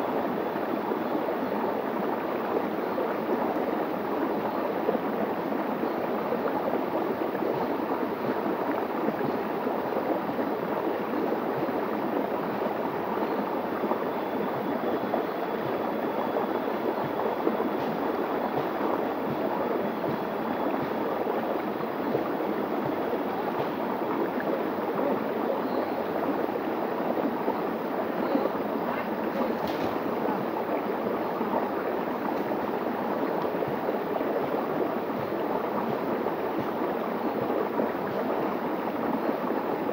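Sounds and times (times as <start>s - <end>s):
stream splashing and gurgling: 0.0s - 39.9s.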